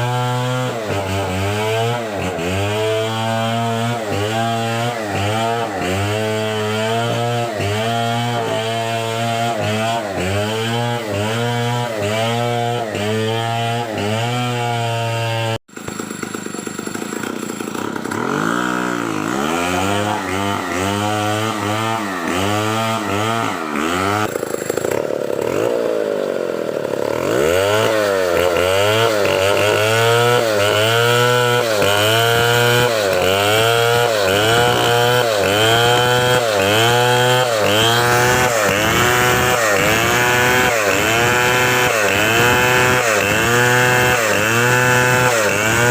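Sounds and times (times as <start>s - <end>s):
chainsaw running at high speed: 0.0s - 45.9s.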